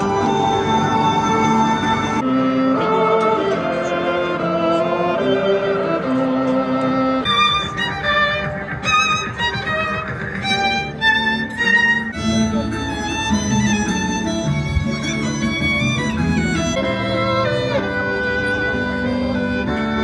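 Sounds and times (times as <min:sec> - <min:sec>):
solo violin melody: 0:00.0 - 0:20.0.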